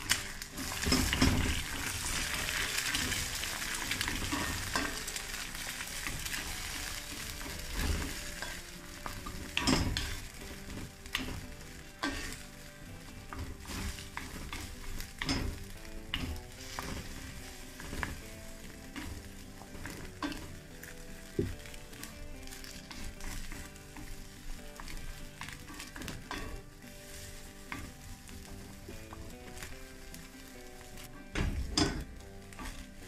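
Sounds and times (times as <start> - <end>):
eggs sizzling in oil: 0.0 - 33.0
spatula scraping a pan: 0.0 - 33.0.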